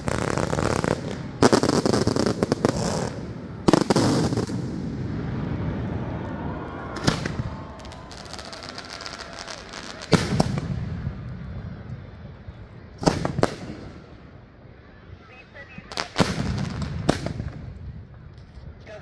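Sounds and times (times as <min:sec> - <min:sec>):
fireworks bangs: 0:00.0 - 0:14.4, 0:15.8 - 0:18.4
fireworks crackling: 0:00.0 - 0:14.6, 0:15.5 - 0:18.7.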